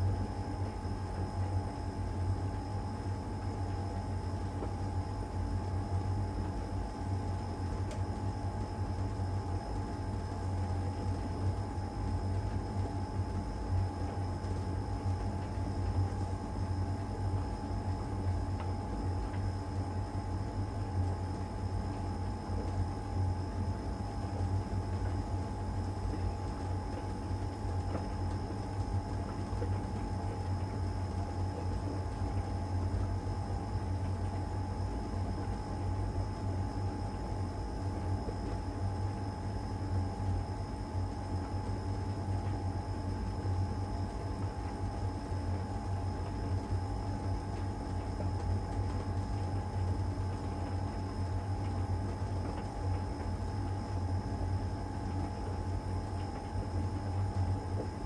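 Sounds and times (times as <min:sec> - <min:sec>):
tumble dryer humming and whining: 0:00.0 - 0:58.0.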